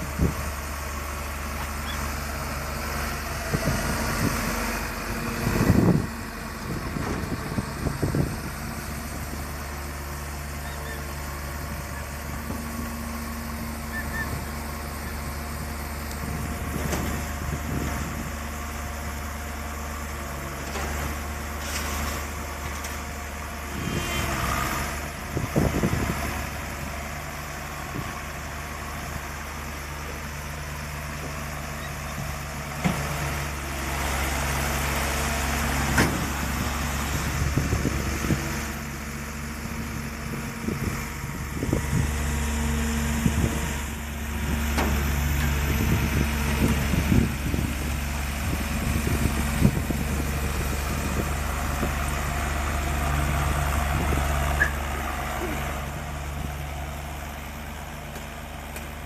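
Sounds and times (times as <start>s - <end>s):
diesel engines idling: 0.0s - 59.0s.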